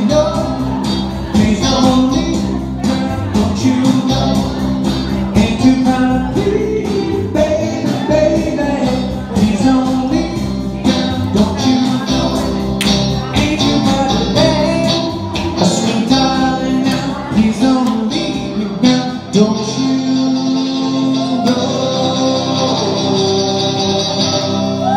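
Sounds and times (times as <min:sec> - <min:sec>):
electric guitar: 0:00.0 - 0:24.9
person singing: 0:00.0 - 0:24.9.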